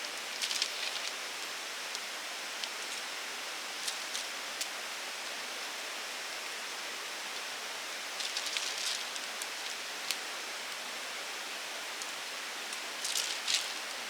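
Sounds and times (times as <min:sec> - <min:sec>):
steady rain: 0:00.1 - 0:14.0.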